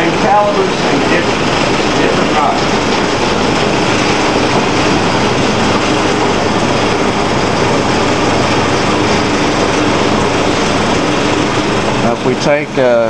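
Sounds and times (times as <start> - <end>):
steady loud rushing noise: 0.0 - 13.0.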